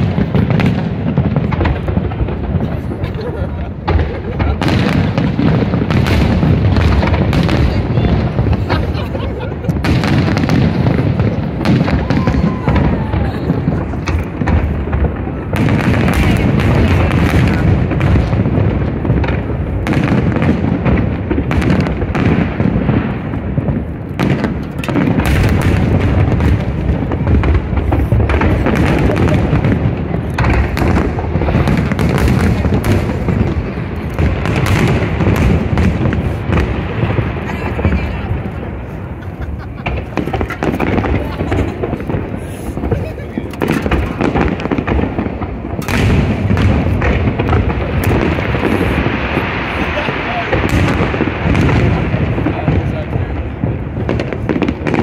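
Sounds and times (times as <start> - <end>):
fireworks booms and crackles: 0.0 - 55.0.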